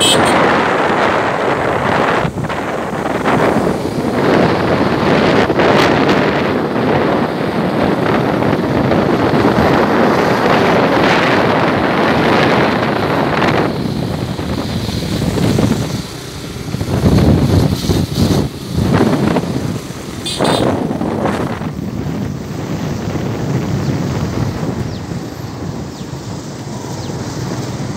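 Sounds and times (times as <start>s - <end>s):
motorcycle engine: 0.0s - 27.9s
wind buffeting microphone: 0.0s - 27.9s.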